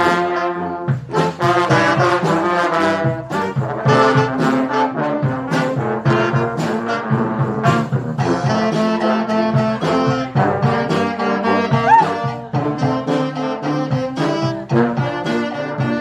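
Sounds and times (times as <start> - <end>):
brass band playing: 0.0 - 16.0
steady drum beat: 0.0 - 16.0.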